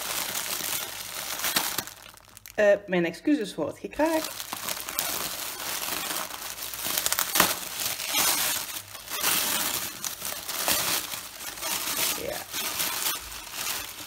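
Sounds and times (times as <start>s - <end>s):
tissue paper crackling and rustling: 0.0s - 2.5s, 4.0s - 14.0s.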